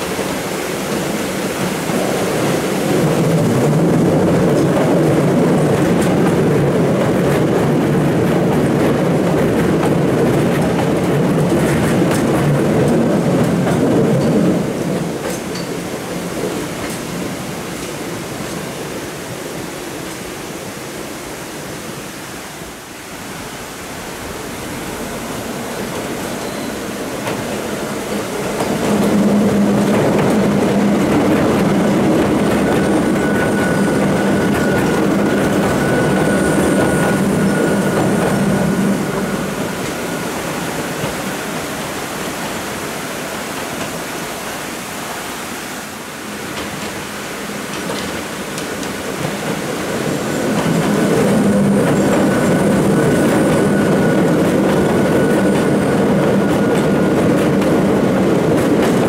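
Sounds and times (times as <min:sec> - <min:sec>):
electric train rumbling: 0:00.0 - 0:59.0.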